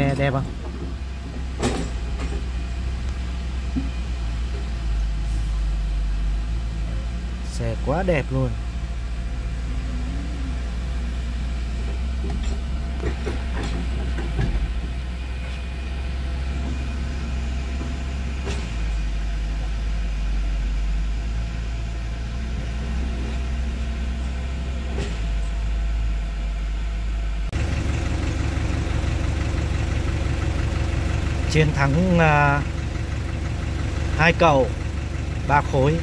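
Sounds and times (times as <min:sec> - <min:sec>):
diesel engine rumbling: 0:00.0 - 0:36.0.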